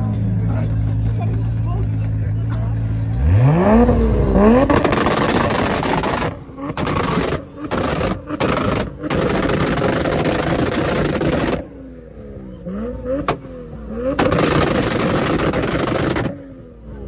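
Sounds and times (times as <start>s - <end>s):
rough car engine with anti-lag: 0.0s - 17.0s.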